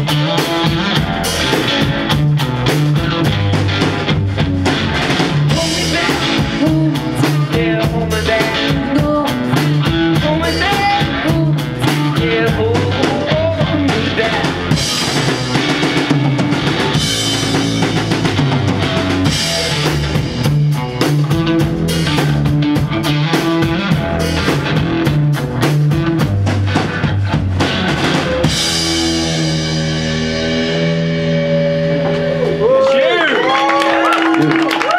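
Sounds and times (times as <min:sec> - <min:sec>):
drum kit pounding a beat: 0:00.0 - 0:32.8, 0:33.6 - 0:34.9
distorted electric guitar: 0:00.0 - 0:33.0.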